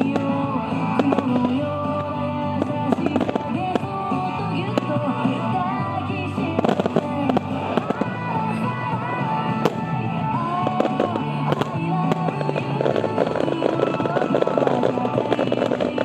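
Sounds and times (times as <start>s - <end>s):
fireworks bursting and crackling: 0.0s - 16.0s
music with melody and bass line: 0.0s - 16.0s.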